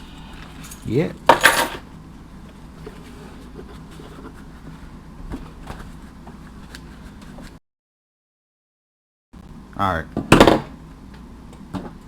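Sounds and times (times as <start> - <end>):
low room hum: 0.0 - 7.6, 9.4 - 12.0.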